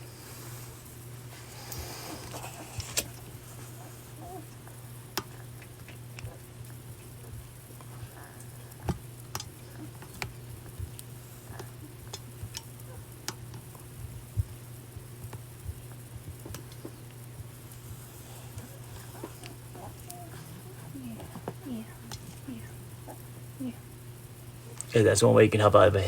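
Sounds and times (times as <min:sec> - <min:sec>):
steady low hum: 0:00.0 - 0:26.0
handling clicks and rustles: 0:01.7 - 0:23.6.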